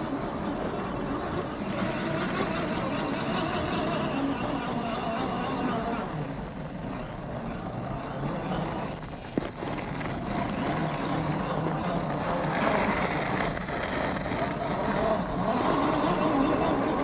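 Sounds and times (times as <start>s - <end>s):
tyres rolling on ground: 0.0s - 17.0s.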